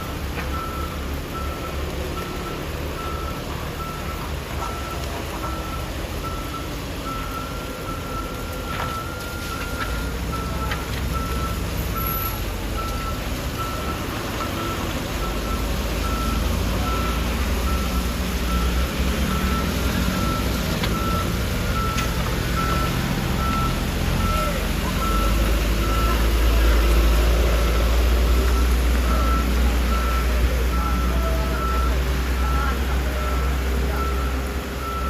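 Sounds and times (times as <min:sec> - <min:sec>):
truck engine rumble: 0:00.0 - 0:35.0
truck reversing alarm beeping: 0:00.0 - 0:35.0.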